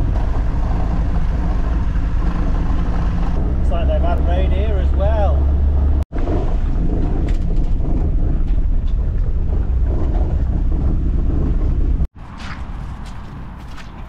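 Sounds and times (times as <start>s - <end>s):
vehicle rumble: 0.0s - 14.0s
wind noise: 0.0s - 14.0s.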